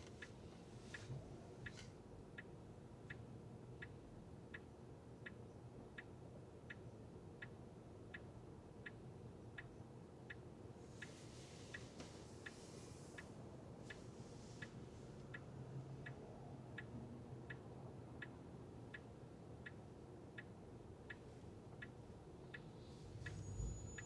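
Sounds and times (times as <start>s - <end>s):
faint road and engine hum: 0.0s - 5.8s, 6.5s - 24.0s.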